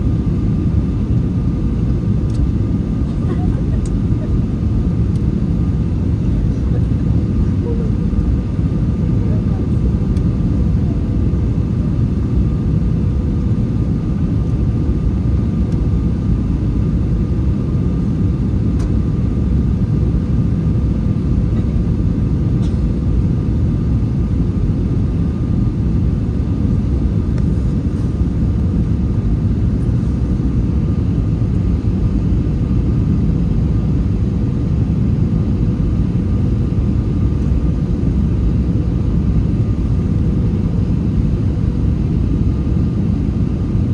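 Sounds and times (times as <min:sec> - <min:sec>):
low rumble of engines and airflow: 0:00.0 - 0:43.9.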